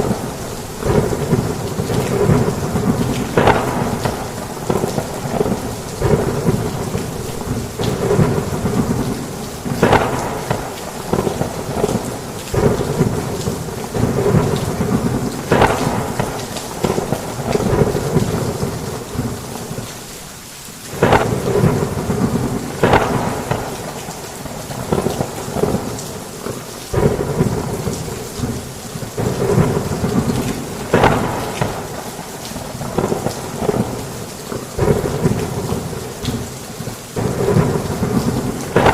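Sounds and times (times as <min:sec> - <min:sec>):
rolling thunder: 0:00.0 - 0:19.8, 0:20.9 - 0:38.9
heavy rain: 0:00.0 - 0:38.9.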